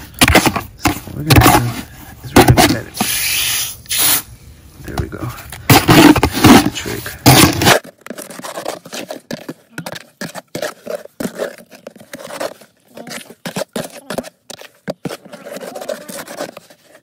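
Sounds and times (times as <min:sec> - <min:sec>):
trowel scraping wet mortar: 0:00.0 - 0:04.2, 0:05.7 - 0:17.0.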